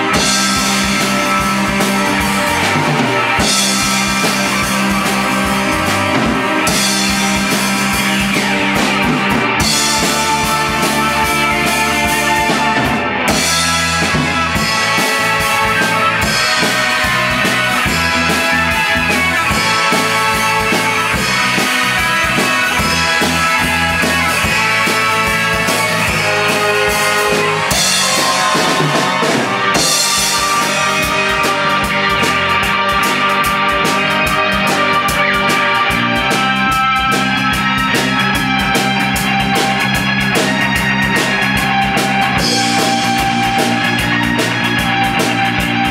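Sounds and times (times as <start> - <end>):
drum kit with cymbals: 0.0 - 45.9
electric bass: 0.0 - 45.9
electric guitar: 0.0 - 45.9.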